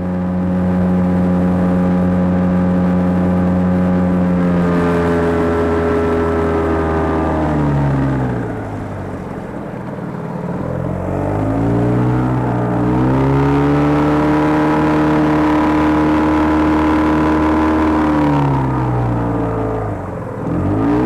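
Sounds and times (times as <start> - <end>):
boat motor revving: 0.0 - 21.0.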